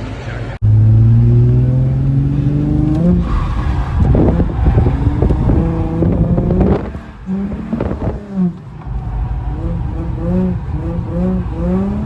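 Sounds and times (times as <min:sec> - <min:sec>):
car engine revving hard: 0:00.6 - 0:12.0.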